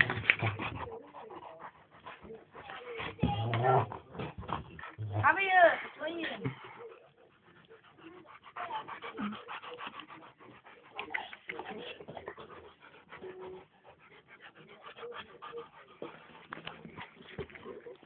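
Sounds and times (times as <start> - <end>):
dogs play-fighting: 0.0 - 18.0.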